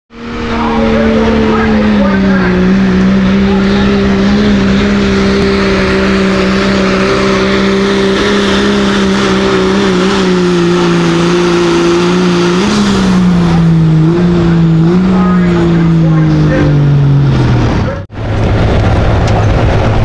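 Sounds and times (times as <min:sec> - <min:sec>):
diesel truck engine revving: 0:00.1 - 0:20.0.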